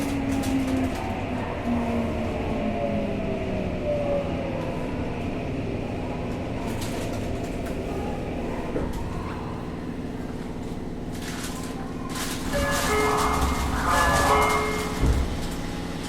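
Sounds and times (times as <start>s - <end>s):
wheel and rail rumble: 0.0s - 16.0s.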